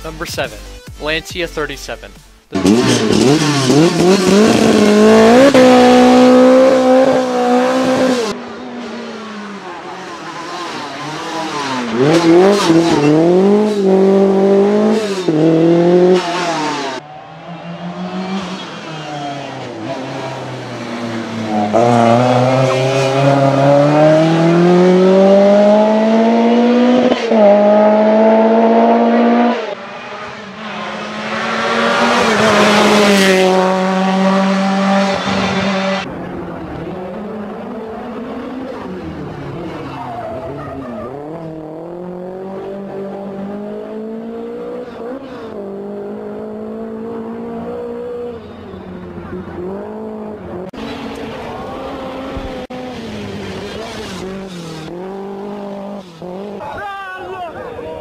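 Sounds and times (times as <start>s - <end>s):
rally car engine revving: 2.5s - 58.0s.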